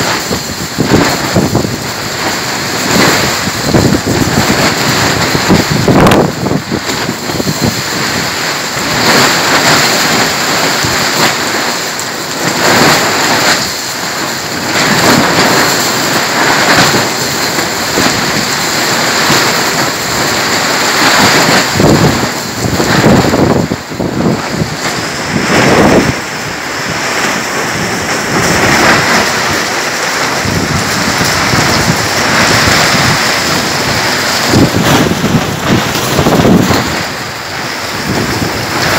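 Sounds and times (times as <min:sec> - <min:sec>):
gusty wind buffeting microphone: 0:00.0 - 0:38.9
heavy rain: 0:00.0 - 0:38.9.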